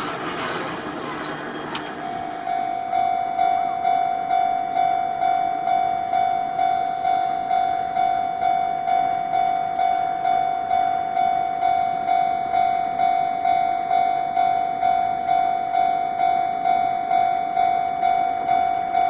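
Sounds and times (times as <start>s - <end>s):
level crossing warning bell ringing: 1.6s - 19.0s.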